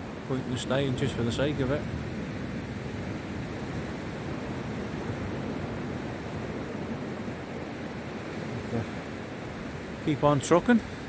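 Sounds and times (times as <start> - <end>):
sea surf on beach: 0.0 - 11.0.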